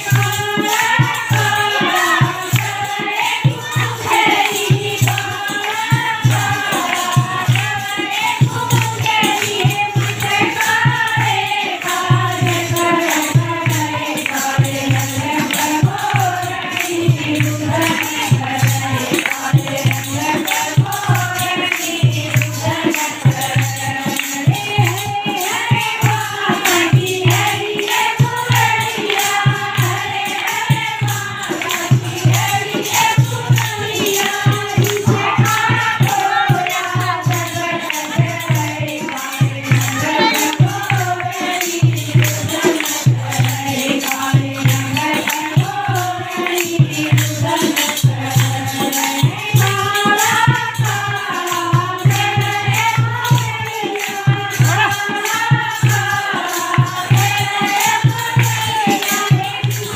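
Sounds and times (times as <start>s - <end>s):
hand-clapping: 0.0s - 59.9s
percussion beat: 0.0s - 59.9s
women singing devotional song: 0.0s - 59.9s.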